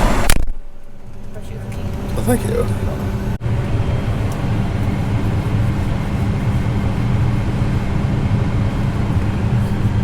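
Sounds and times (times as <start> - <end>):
tractor engine drone: 0.0 - 10.0.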